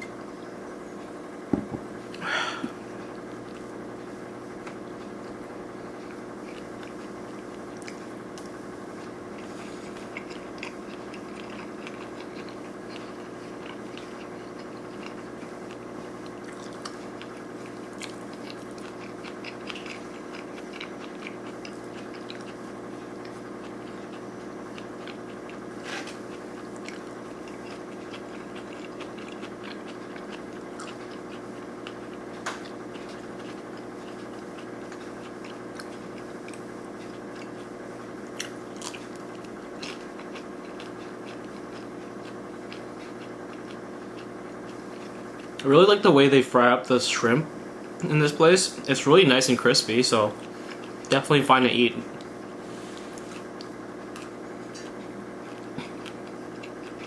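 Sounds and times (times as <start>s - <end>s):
steady low hum: 0.0s - 57.0s
chewing and crunching food: 1.8s - 46.7s, 47.9s - 57.0s.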